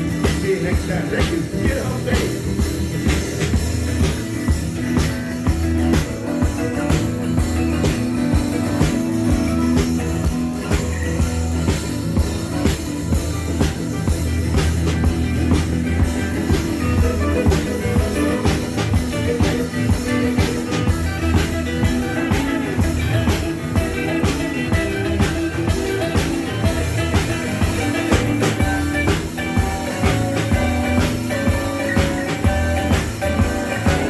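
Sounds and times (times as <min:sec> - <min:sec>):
drum kit steady beat: 0:00.0 - 0:34.0
electric guitar: 0:00.0 - 0:34.0.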